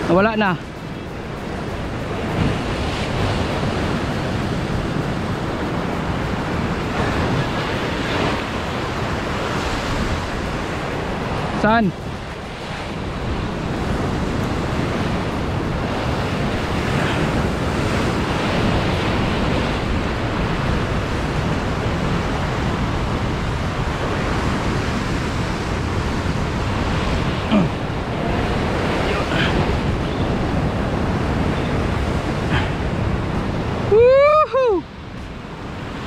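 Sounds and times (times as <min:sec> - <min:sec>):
surf breaking on rocky shore: 0:00.0 - 0:36.0.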